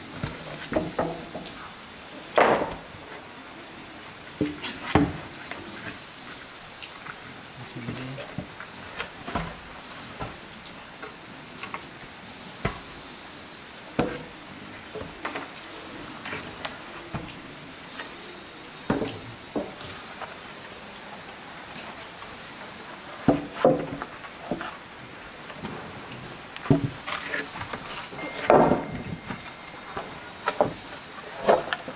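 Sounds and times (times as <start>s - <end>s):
faint steady hiss: 0.0s - 31.9s.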